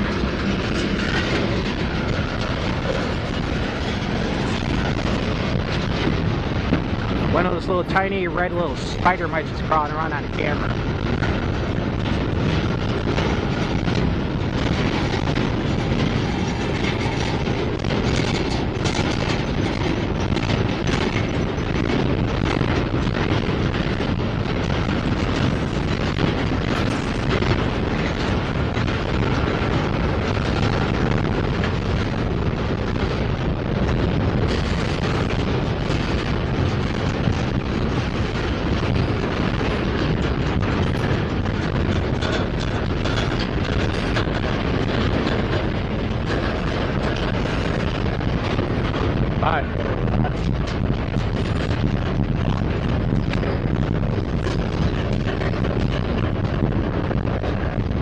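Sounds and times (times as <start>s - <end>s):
train wheels running on rail: 0.0s - 58.0s.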